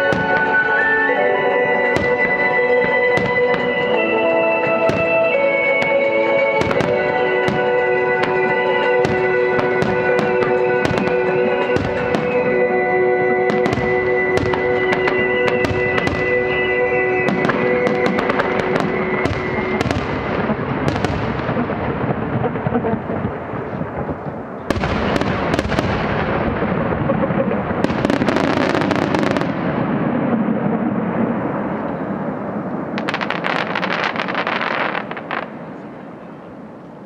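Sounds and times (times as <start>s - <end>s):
music with long held notes: 0.0s - 30.2s
fireworks bangs and crackling: 0.0s - 36.2s.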